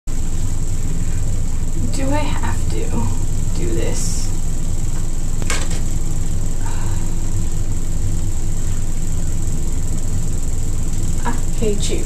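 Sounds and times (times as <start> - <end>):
faint high whine: 0.1 - 12.0
steady low hum: 0.1 - 12.0.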